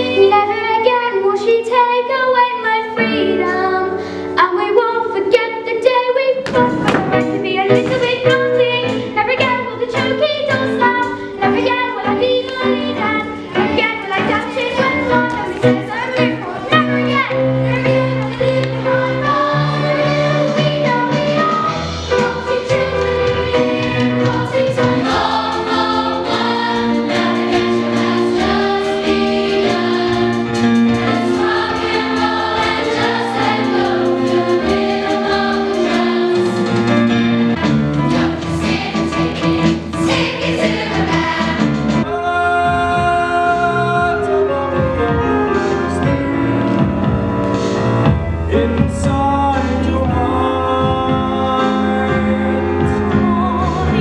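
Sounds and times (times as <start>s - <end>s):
band backing with bass line: 6.4s - 54.0s
chorus singing: 6.5s - 46.8s, 47.5s - 54.0s.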